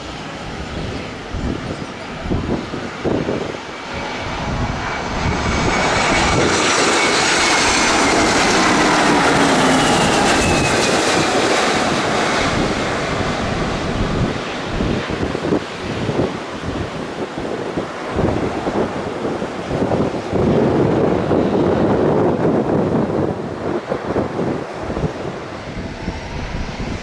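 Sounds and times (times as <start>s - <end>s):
airplane engine passing by: 0.0s - 27.0s
wind buffeting microphone: 0.0s - 27.0s.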